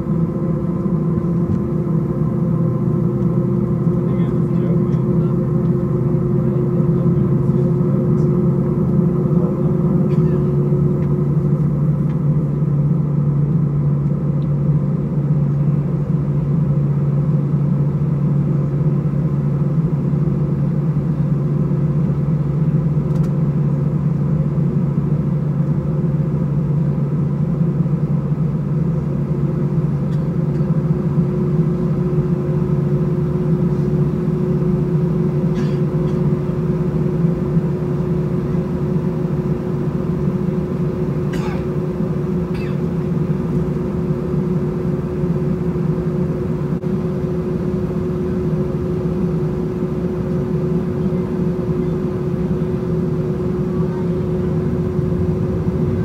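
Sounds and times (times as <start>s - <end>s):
jet engine cabin hum: 0.0s - 56.0s.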